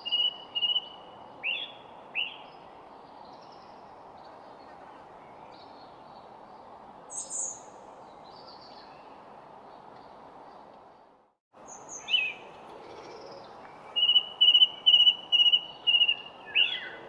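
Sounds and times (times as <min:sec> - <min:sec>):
songbirds calling: 0:00.0 - 0:17.0.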